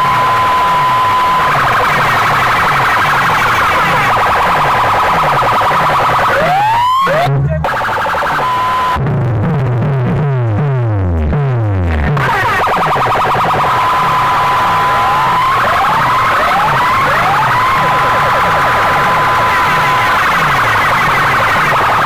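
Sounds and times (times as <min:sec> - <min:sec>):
loud electronic dance music: 0:00.0 - 0:22.0.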